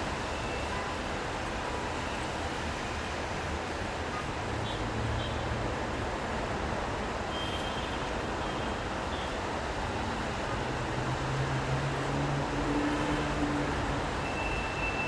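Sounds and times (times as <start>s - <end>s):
rain and tyres hissing on wet road: 0.0s - 15.0s.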